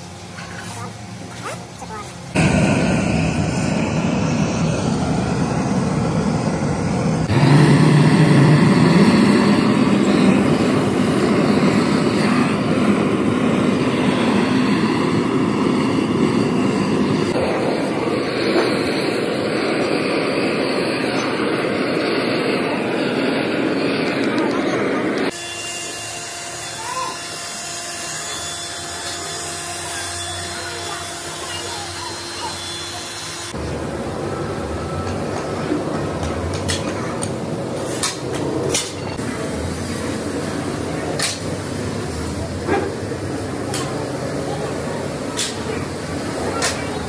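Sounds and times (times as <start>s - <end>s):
workshop machinery noise: 0.0s - 47.0s.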